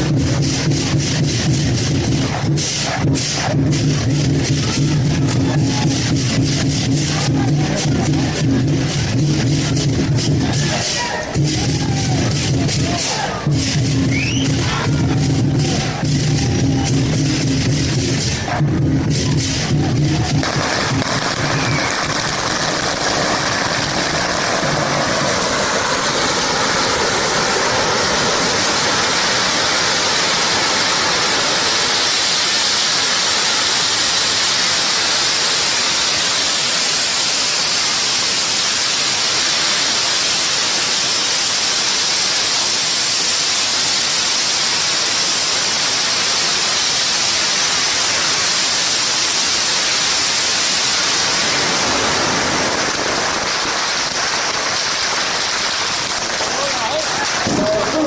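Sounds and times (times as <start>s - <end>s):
firecrackers exploding: 0.0s - 58.0s.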